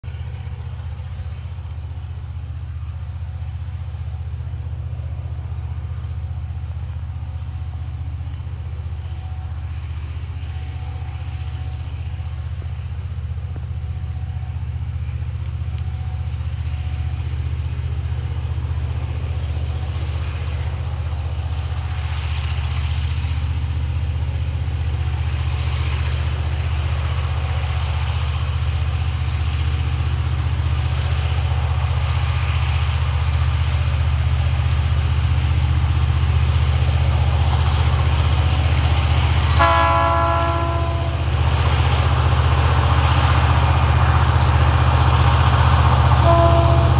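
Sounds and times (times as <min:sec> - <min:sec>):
locomotive diesel engine humming: 0:00.0 - 0:46.9
train rushing noise: 0:00.0 - 0:46.9.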